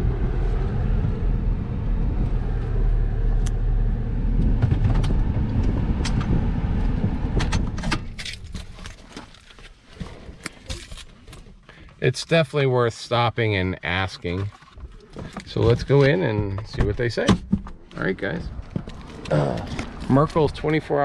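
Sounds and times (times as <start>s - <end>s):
car engine and tyres on gravel: 0.0s - 12.7s, 13.8s - 21.0s.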